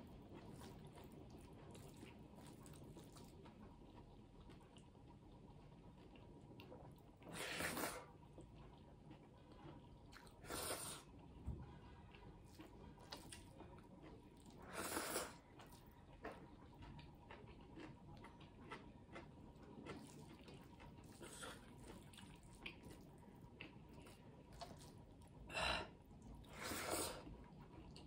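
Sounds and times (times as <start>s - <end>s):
chewing: 0.0s - 28.0s.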